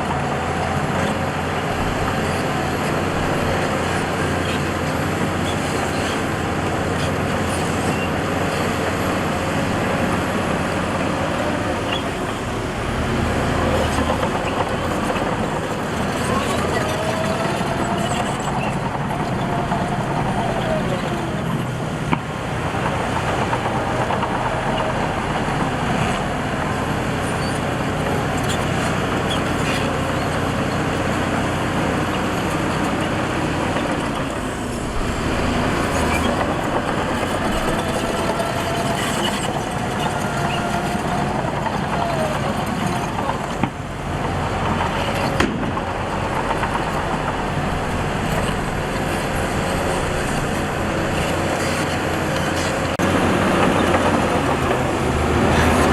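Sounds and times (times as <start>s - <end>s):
diesel earthmoving machinery running: 0.0s - 55.9s.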